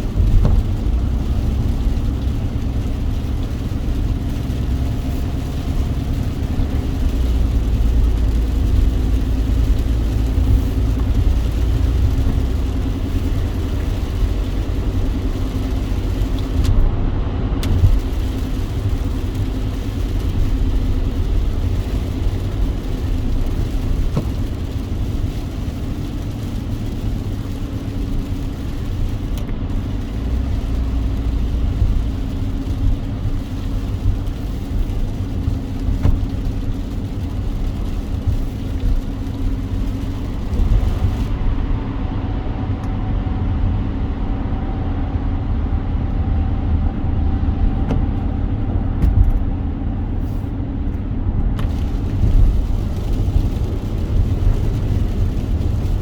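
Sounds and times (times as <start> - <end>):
car engine and road rumble: 0.0 - 56.0
rain and wet tyres hissing: 0.0 - 56.0.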